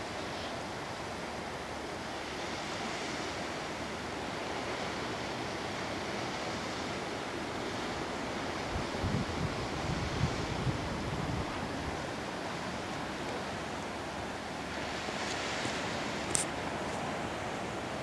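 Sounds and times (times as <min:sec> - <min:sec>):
light breeze: 0:00.0 - 0:18.0
sea surf washing on shore: 0:00.0 - 0:18.0.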